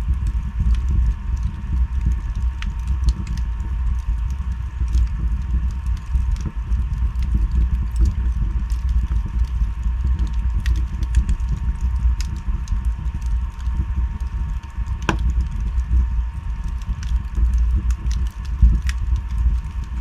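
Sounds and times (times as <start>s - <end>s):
fire rumbling: 0.0s - 20.0s
logs crackling and popping: 0.0s - 20.0s.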